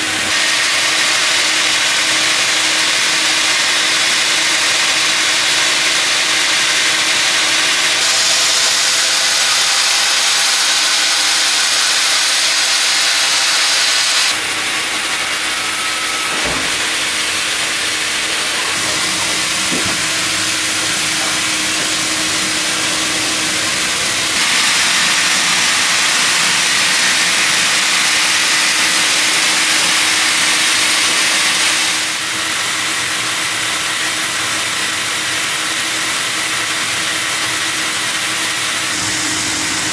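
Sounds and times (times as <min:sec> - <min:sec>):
machine hum: 0:00.0 - 0:33.9, 0:38.8 - 0:39.9
band saw cutting log: 0:00.0 - 0:39.9.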